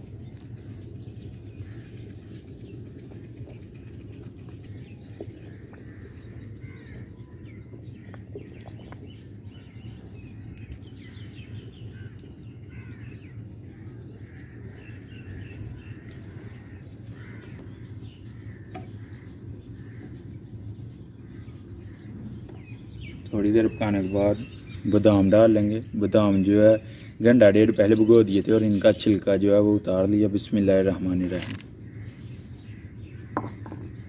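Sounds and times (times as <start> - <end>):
birds chirping: 0.0 - 34.0
steady low rumble: 0.0 - 34.0.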